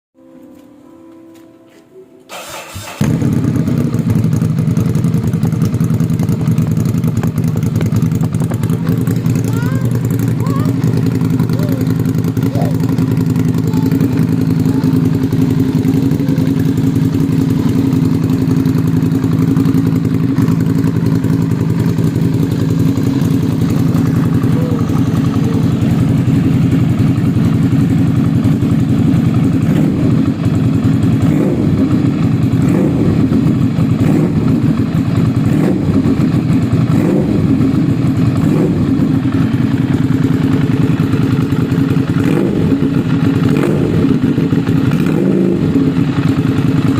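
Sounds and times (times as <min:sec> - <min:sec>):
motorcycle engine idling: 0:02.3 - 0:46.9.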